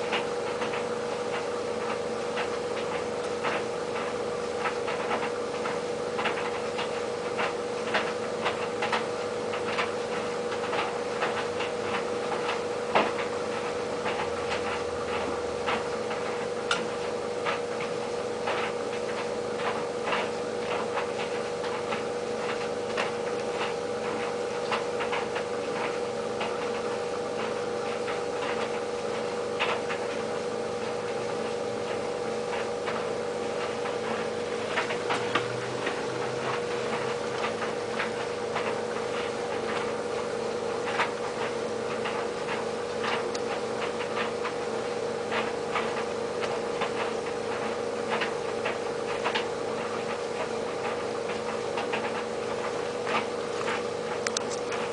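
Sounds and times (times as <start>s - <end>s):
tumble dryer motor humming: 0.0s - 54.9s.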